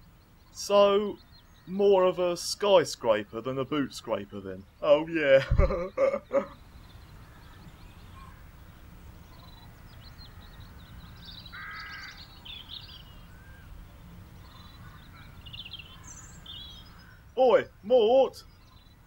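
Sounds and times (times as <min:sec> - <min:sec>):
birds chirping: 0:00.0 - 0:19.0
harsh bird call: 0:00.5 - 0:19.0.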